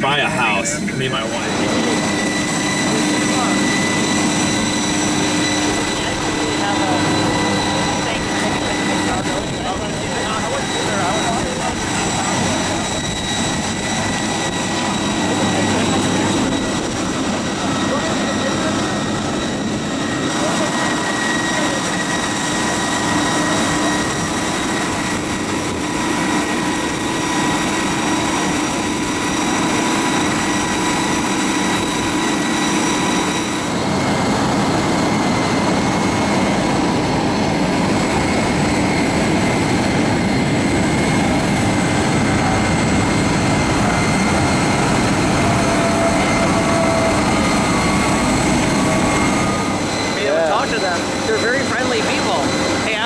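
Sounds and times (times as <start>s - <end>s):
engine roar with high whine: 0.0s - 53.0s.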